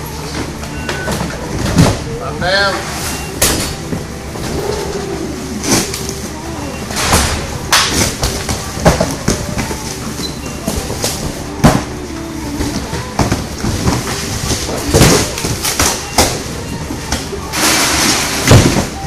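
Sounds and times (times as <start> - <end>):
boxes knocking and clattering: 0.0 - 5.0, 5.7 - 19.0.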